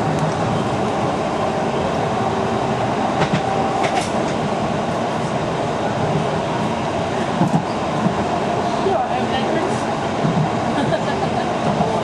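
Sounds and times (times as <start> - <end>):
rail clicks: 0.0 - 12.0
tram rattling along track: 0.0 - 12.0.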